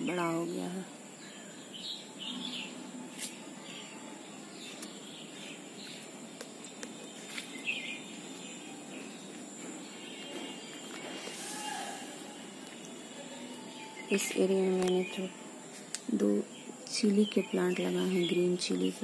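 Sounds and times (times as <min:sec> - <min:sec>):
birds chirping: 0:00.0 - 0:19.0
outdoor hiss: 0:00.0 - 0:19.0.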